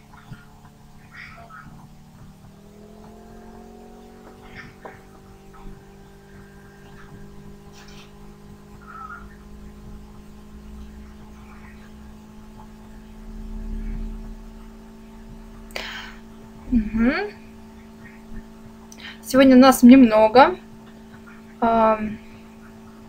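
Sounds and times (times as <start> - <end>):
electrical hum: 0.0 - 23.0
faint small noises: 0.0 - 23.0
low rumble: 0.0 - 23.0.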